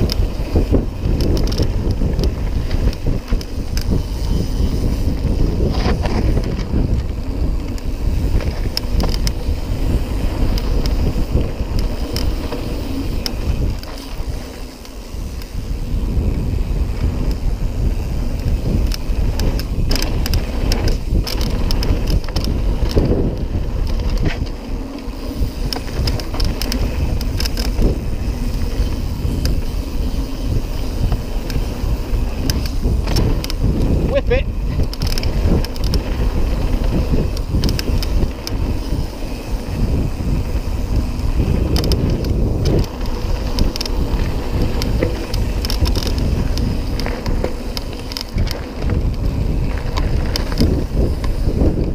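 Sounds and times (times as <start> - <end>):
tyres rolling over dirt and stones: 0.0 - 15.3, 16.6 - 51.9
bike clicks and rattles: 0.0 - 51.9
wind buffeting microphone: 0.0 - 51.9.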